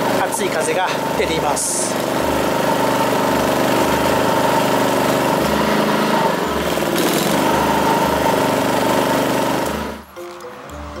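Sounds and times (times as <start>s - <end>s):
heat gun blower: 0.0s - 10.1s
generator engine running: 0.0s - 10.2s.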